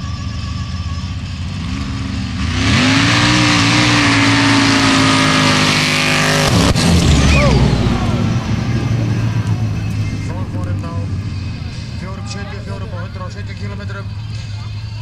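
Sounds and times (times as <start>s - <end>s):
buggy engines revving: 0.0s - 15.0s
racing engines pitch sweeping: 0.0s - 15.0s.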